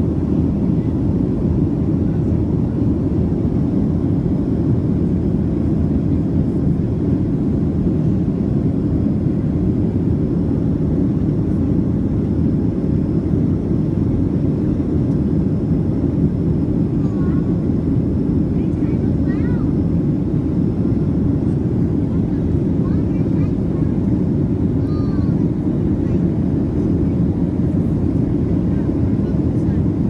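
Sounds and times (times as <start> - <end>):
airplane cabin engine rush: 0.0 - 30.0.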